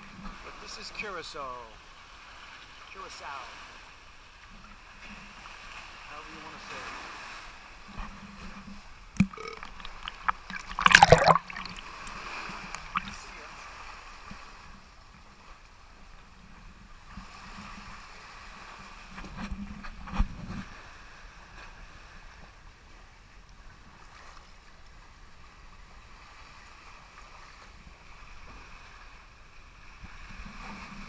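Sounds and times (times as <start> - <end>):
sea water lapping over rocks: 0.0 - 20.0, 20.6 - 31.0.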